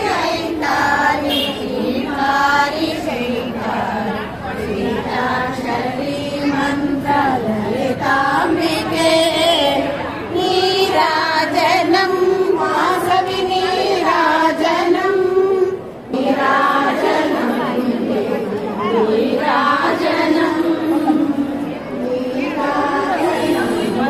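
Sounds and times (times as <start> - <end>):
women singing devotional song: 0.0 - 24.0.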